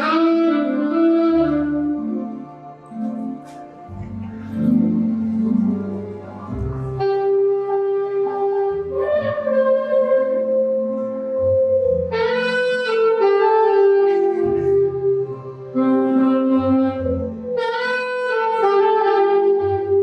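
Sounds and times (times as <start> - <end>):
low bass accompaniment: 0.0 - 20.0
saxophone melody: 0.0 - 20.0.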